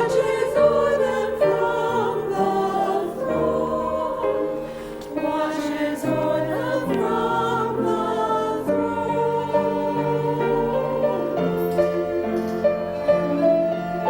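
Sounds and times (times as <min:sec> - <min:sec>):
choir singing a hymn: 0:00.0 - 0:14.0
instrumental accompaniment: 0:00.0 - 0:14.0.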